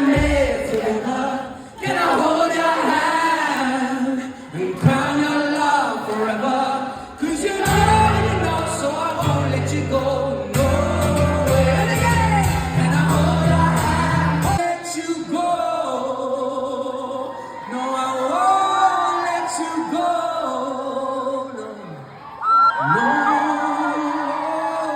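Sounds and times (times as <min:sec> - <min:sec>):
person singing: 0:00.0 - 0:22.0.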